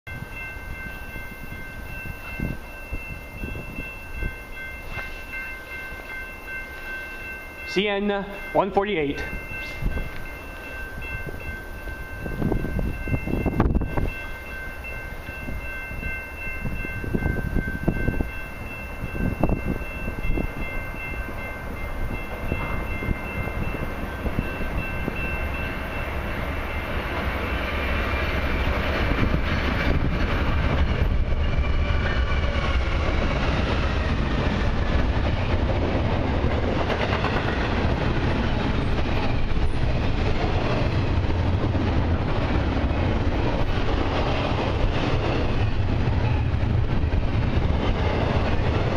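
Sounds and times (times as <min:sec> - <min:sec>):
train rumbling past: 0:00.1 - 0:48.9.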